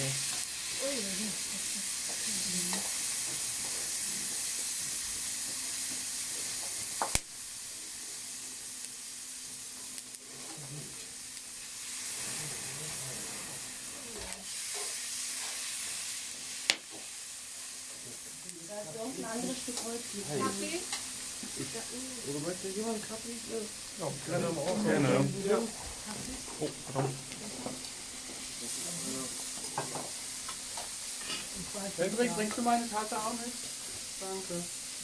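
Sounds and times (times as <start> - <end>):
meat sizzling over fire: 0.0 - 35.0.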